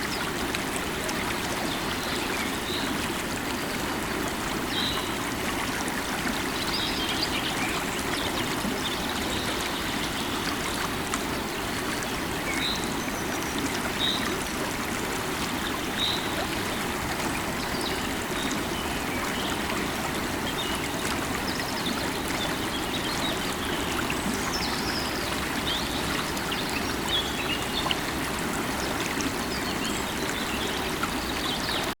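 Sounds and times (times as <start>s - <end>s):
river water flowing: 0.0s - 32.0s.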